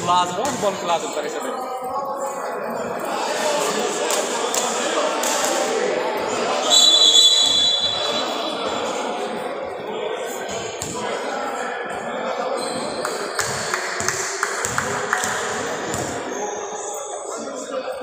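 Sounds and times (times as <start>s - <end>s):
echoing voices: 0.0s - 18.0s.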